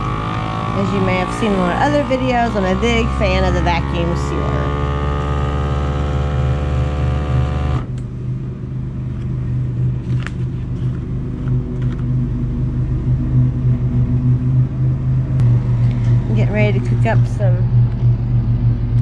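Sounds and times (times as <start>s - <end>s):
low steady hum: 0.0s - 19.0s
vacuum sealer pump running: 0.0s - 19.0s.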